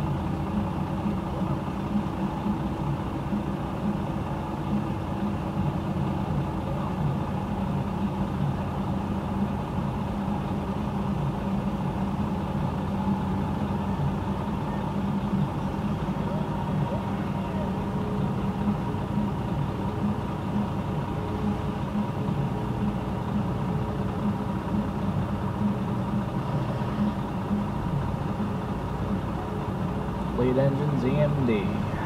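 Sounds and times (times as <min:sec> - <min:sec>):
idling engines rumble: 0:00.0 - 0:32.0.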